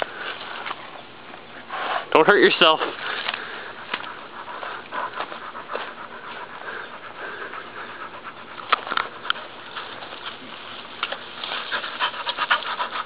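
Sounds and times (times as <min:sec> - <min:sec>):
dog panting: 0:01.5 - 0:13.0.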